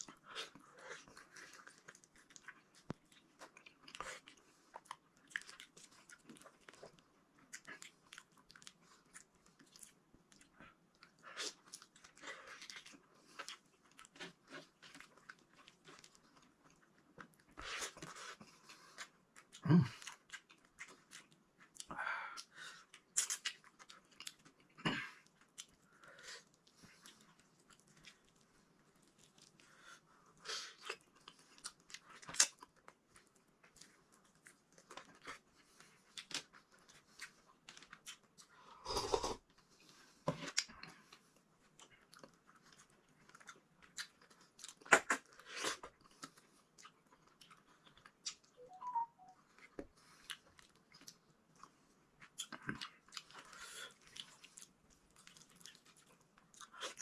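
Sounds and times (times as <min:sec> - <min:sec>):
close chewing with wet smacks: 0:00.0 - 0:38.6, 0:39.4 - 0:48.6, 0:49.4 - 0:57.0.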